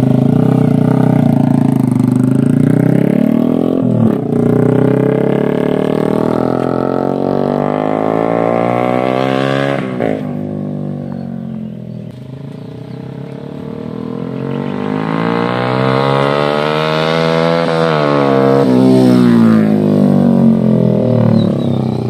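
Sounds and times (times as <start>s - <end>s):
motorcycle accelerating: 0.0s - 22.0s.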